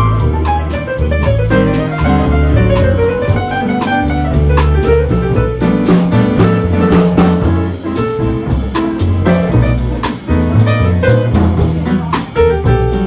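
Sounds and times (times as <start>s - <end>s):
drum and cymbal accents: 0.0s - 13.0s
jazz band playing: 0.0s - 13.0s.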